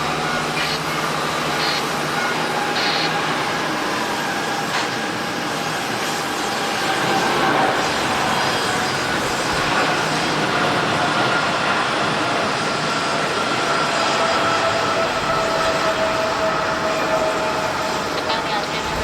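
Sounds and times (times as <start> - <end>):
jet engines passing: 0.0 - 19.0.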